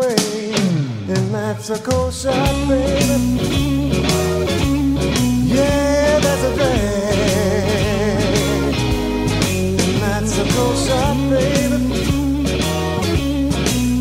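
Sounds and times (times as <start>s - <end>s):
rock song with guitar and bass: 0.0s - 14.0s.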